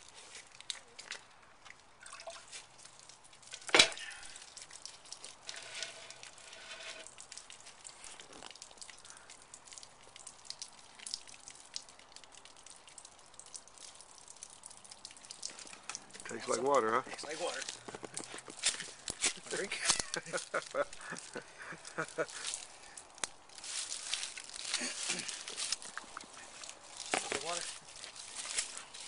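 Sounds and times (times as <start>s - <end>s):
water dripping and trickling: 0.0s - 29.0s.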